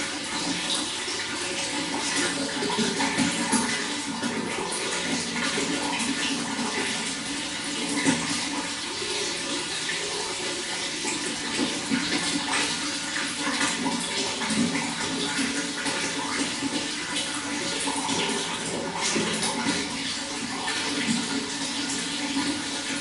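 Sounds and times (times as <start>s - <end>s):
running water gurgling: 0.0s - 23.0s.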